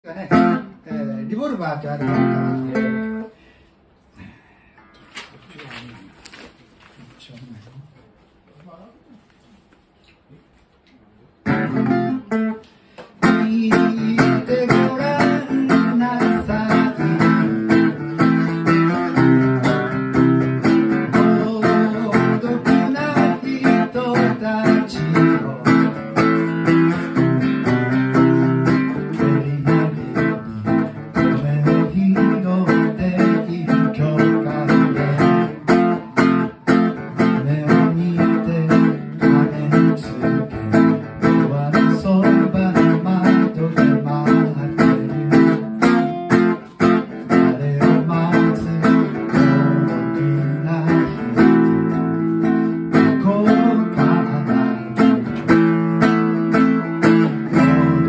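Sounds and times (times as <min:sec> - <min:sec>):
acoustic guitar strumming chords: 0:00.2 - 0:03.4, 0:11.4 - 0:58.0.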